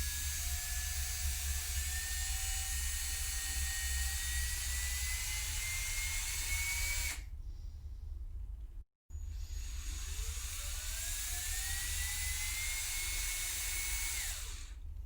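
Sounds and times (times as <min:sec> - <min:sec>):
electric drill running: 0:00.0 - 0:07.3, 0:09.3 - 0:14.8.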